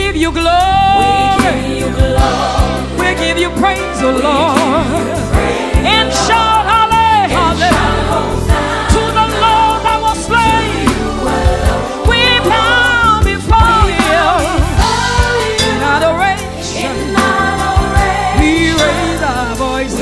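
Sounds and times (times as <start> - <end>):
woman singing into microphone: 0.1 - 20.0
live band with drums: 0.5 - 20.0
backing choir singing: 1.0 - 20.0.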